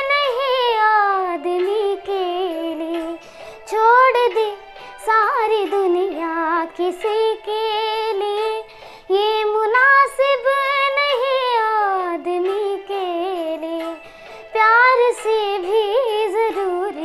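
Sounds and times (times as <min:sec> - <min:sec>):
girl singing unaccompanied: 0:00.0 - 0:17.0.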